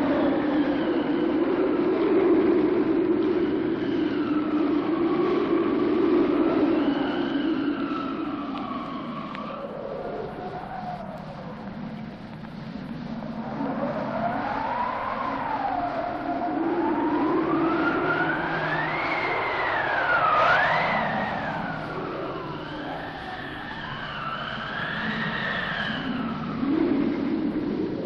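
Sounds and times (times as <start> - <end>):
wind howling: 0.0 - 28.0.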